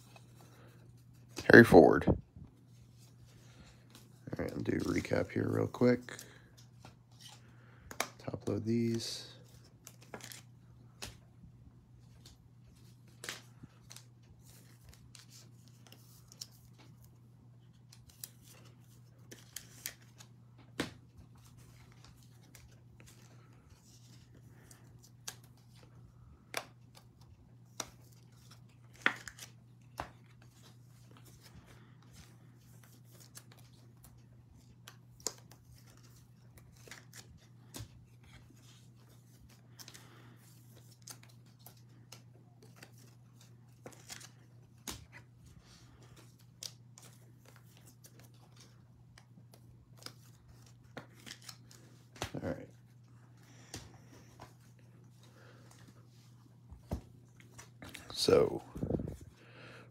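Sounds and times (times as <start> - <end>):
clicks and rustles of card handling: 0.0 - 1.8, 2.6 - 11.3, 12.0 - 59.3.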